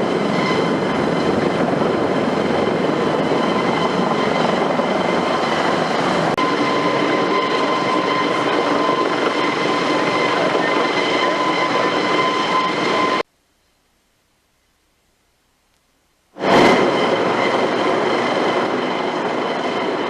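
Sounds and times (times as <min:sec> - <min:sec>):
helicopter engines and rotors: 0:00.0 - 0:13.3, 0:16.3 - 0:20.0.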